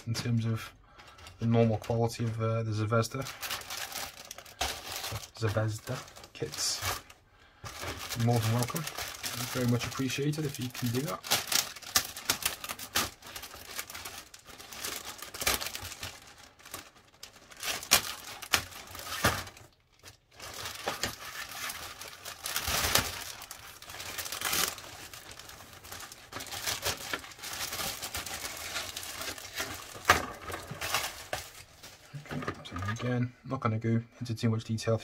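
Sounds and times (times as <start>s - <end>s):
plastic bag crinkling: 0.0s - 32.4s.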